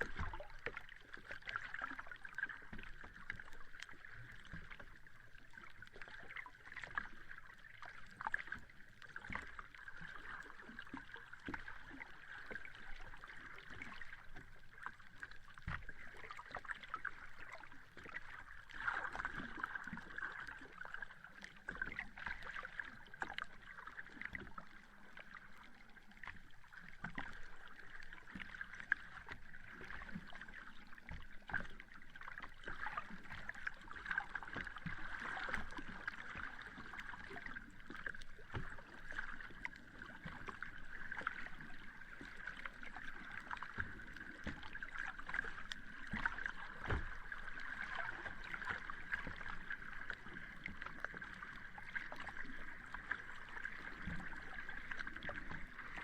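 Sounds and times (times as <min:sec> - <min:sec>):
sea water lapping at the shore: 0:00.0 - 0:56.0.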